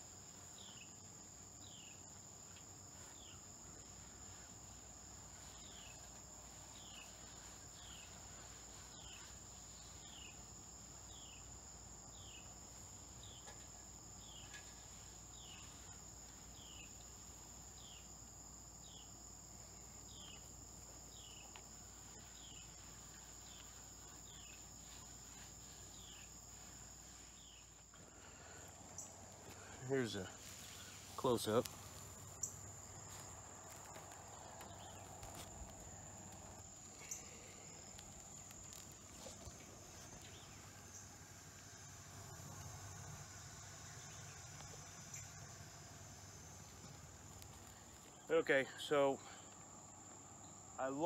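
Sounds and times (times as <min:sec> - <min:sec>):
insects trilling: 0:00.0 - 0:51.0.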